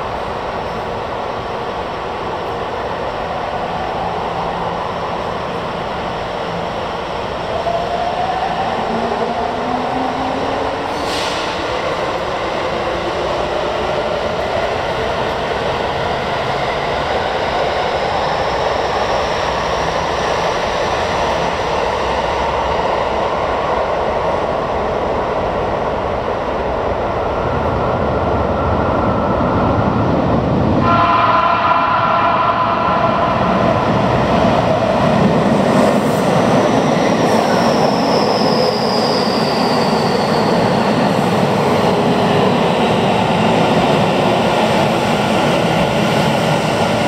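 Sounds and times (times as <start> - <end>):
subway train motors whining: 0.0 - 47.0
train running noise: 0.0 - 47.0.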